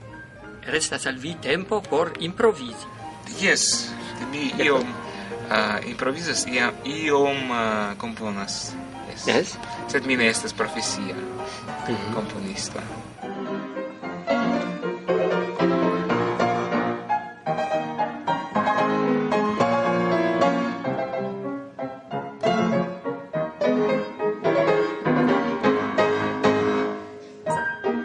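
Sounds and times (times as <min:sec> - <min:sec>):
upright piano played fast: 0:00.0 - 0:28.0.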